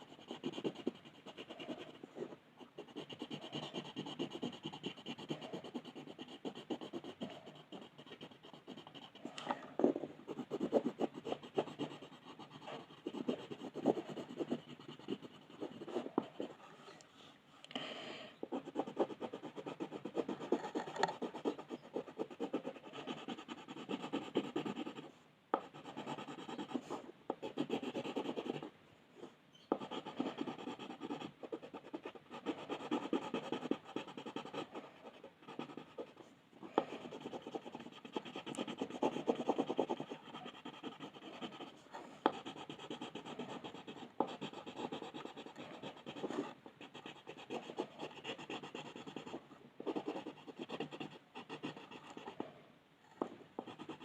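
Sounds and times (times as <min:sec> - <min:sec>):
coloured pencil scratching on paper: 0:00.0 - 0:16.7, 0:18.5 - 0:52.5, 0:53.1 - 0:54.0.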